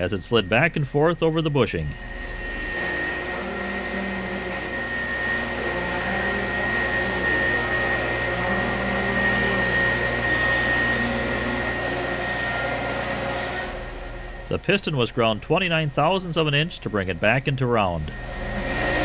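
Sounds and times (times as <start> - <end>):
grinder whining: 0.0 - 19.0
motor hum: 0.0 - 19.0.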